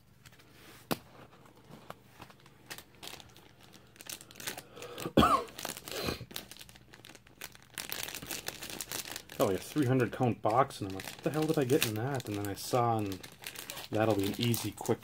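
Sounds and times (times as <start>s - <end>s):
packaging crinkling and tearing: 1.6s - 15.0s.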